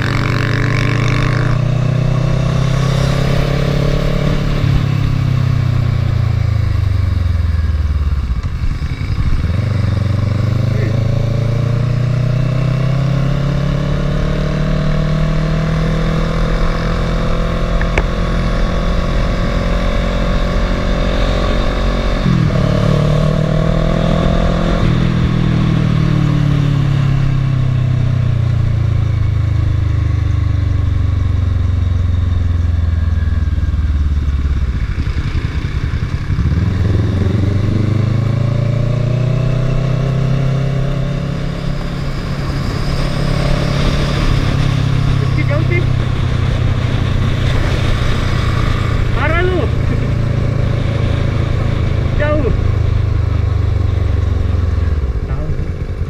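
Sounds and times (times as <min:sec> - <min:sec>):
muffled motorcycle engine: 0:00.0 - 0:56.0.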